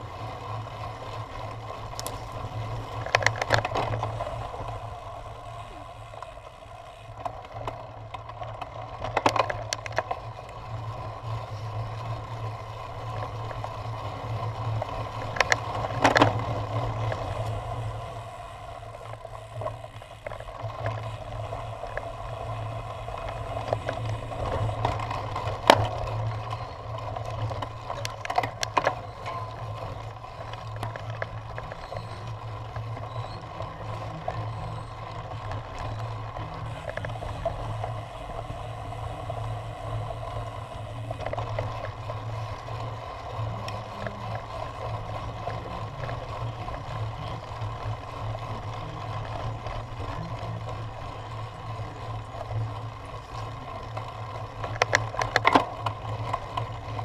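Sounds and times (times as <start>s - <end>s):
bike tyres rumbling over grass: 0.0s - 57.0s.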